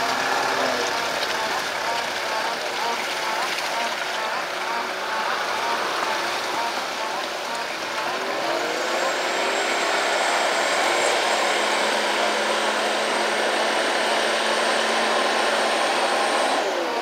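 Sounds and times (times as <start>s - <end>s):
diesel engine pulling through mud: 0.0s - 17.0s.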